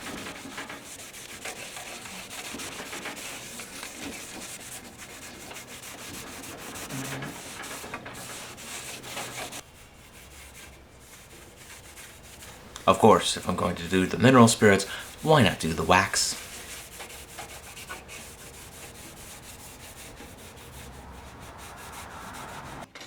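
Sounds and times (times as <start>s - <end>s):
cloth rubbing and scrubbing metal: 0.0s - 22.9s.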